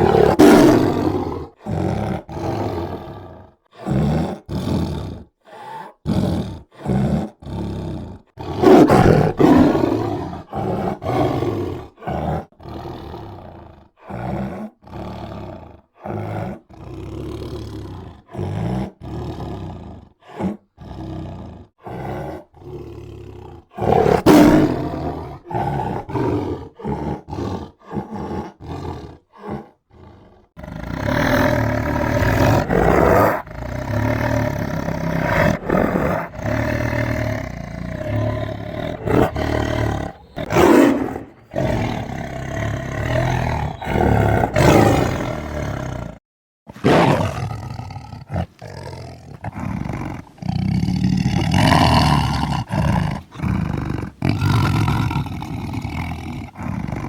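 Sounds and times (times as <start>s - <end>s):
tiger roaring: 0.0s - 57.0s.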